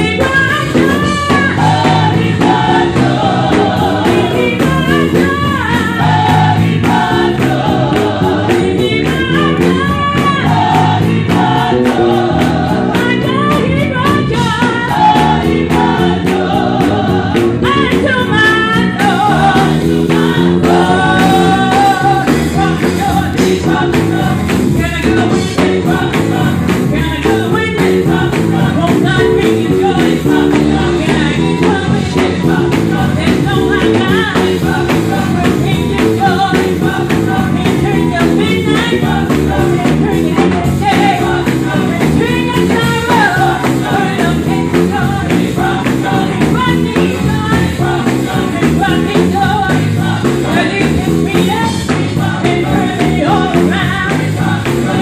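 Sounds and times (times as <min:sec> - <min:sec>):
electric guitar: 0:00.0 - 0:55.0
steady beat: 0:00.0 - 0:55.0
woman singing into microphone: 0:00.0 - 0:55.0.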